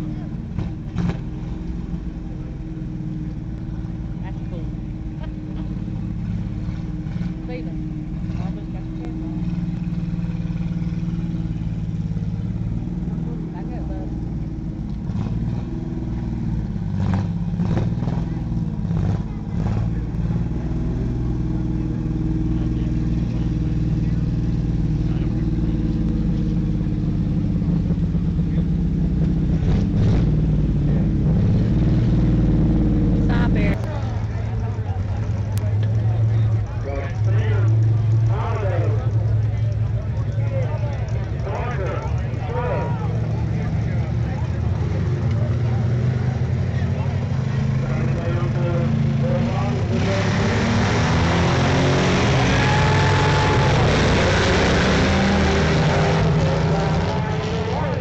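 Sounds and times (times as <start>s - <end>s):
race car engines droning: 0.0s - 58.0s.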